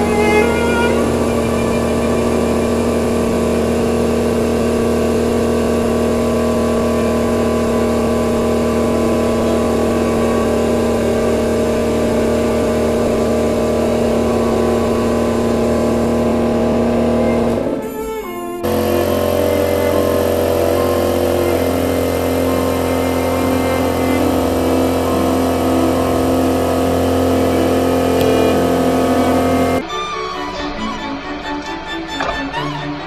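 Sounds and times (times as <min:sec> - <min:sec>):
hydraulic pump motor humming: 0:00.0 - 0:29.8.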